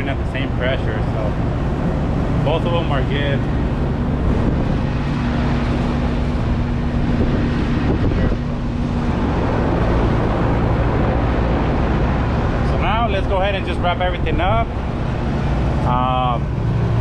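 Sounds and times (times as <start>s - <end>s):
air conditioner mechanical drone: 0.0s - 17.0s
steady tone: 0.0s - 17.0s.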